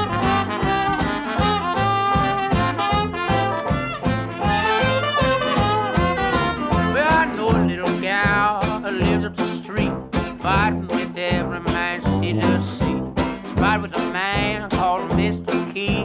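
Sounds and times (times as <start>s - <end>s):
upbeat traditional jazz band: 0.0s - 16.0s.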